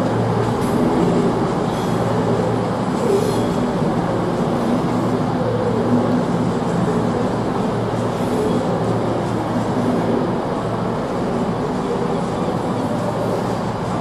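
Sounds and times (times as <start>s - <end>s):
electric train rumbling on rails: 0.0s - 14.0s.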